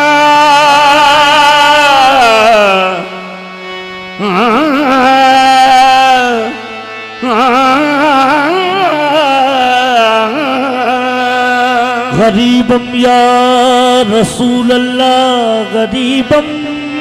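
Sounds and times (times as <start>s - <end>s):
harmonium chords: 0.0s - 17.0s.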